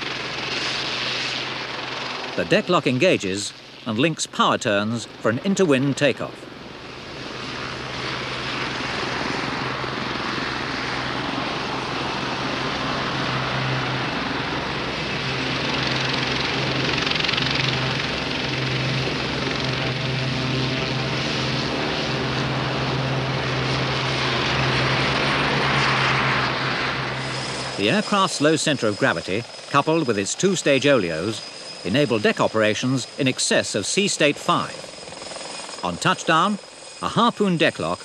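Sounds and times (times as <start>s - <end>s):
helicopter turbine and rotor: 0.0s - 38.0s.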